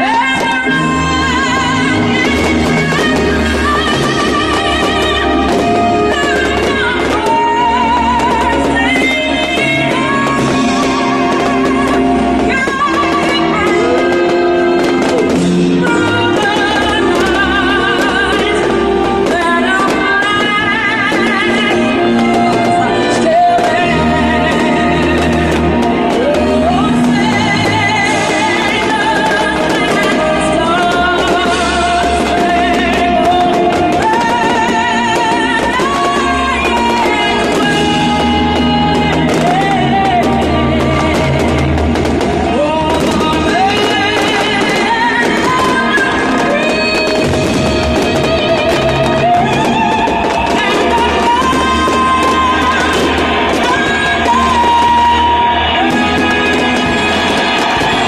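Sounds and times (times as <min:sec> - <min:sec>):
instrumental accompaniment: 0:00.0 - 0:58.0
person singing long notes: 0:00.0 - 0:58.0.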